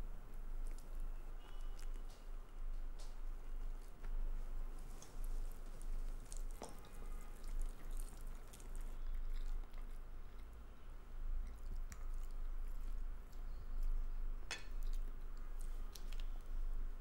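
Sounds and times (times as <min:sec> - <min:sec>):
steady low hum: 0:00.0 - 0:17.0
chewing: 0:00.6 - 0:04.2, 0:04.8 - 0:10.6, 0:11.2 - 0:14.0, 0:14.7 - 0:16.6.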